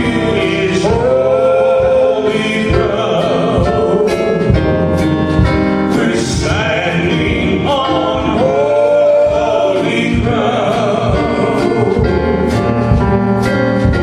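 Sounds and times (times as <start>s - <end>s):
gospel worship music: 0.0s - 14.0s.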